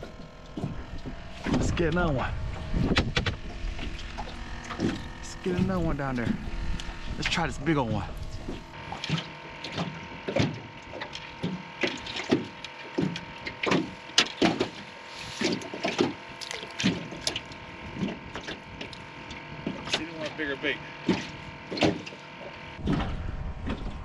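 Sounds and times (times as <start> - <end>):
waves slapping metal boat hull: 0.0 - 23.0.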